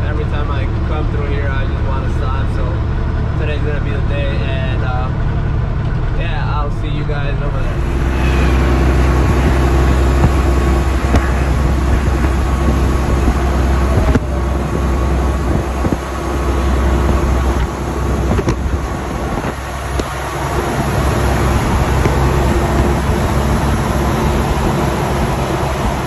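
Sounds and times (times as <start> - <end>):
road and tyre noise: 0.0 - 26.0
truck engine drone: 0.0 - 26.0.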